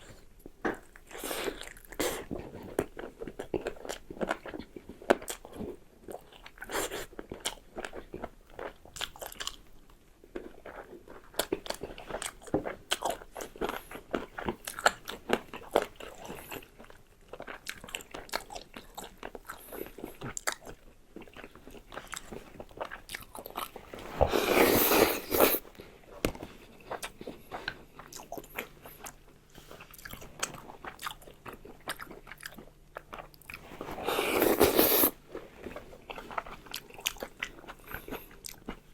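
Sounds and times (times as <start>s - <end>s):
chewing and biting: 0.1s - 38.9s.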